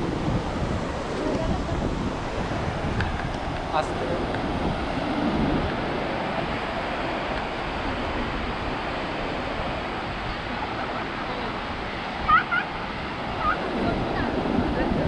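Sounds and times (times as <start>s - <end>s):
sea surf breaking: 0.0s - 15.0s
wind on microphone: 0.0s - 15.0s.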